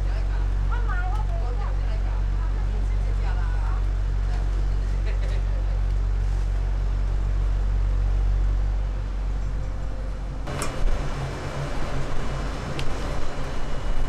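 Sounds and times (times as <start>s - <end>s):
electric fan humming: 0.0s - 14.0s.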